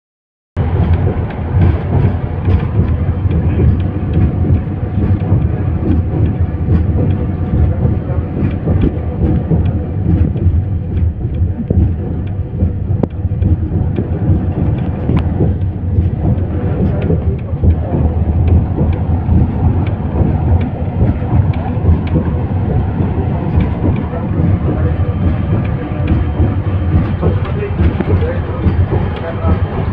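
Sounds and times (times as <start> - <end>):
bus engine and road rumble: 0.6 - 29.9.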